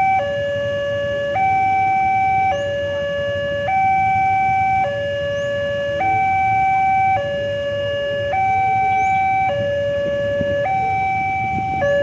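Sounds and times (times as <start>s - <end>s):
two-tone crossing alarm: 0.0s - 12.0s.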